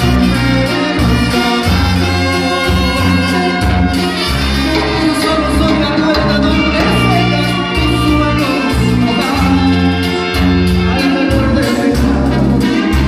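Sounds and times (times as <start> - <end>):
live latin band playing: 0.0 - 13.0
steady percussion beat: 0.0 - 13.0
sustained bass notes: 0.0 - 13.0.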